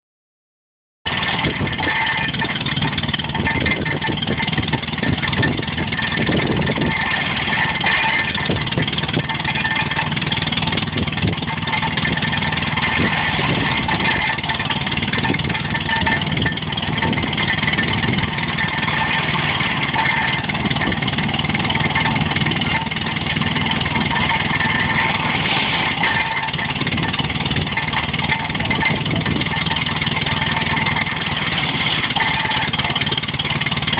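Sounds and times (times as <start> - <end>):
baler mechanical clatter: 1.1 - 33.9
engine hum: 1.1 - 33.9.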